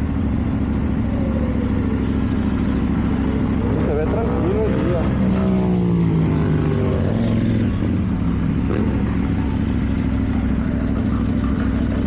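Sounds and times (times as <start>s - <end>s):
motorcycle engine revs falling: 1.2s - 11.9s.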